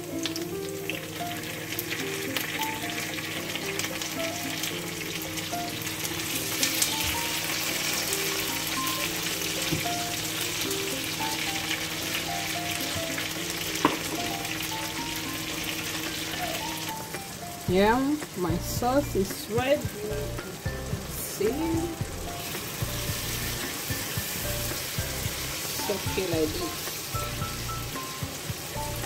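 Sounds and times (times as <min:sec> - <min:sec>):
onions sizzling in a frying pan: 0:00.0 - 0:29.0.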